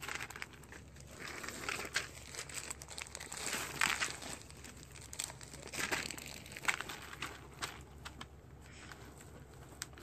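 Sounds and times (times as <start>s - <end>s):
plastic bags of beans crinkling: 0.0s - 10.0s.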